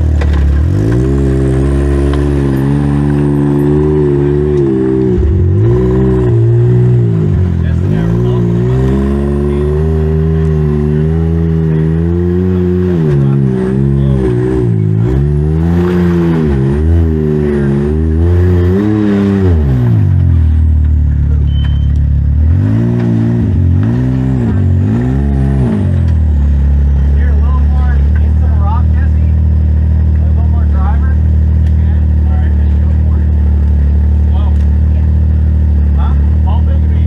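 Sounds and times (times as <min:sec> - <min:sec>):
utility vehicle engine revving: 0:00.0 - 0:37.0.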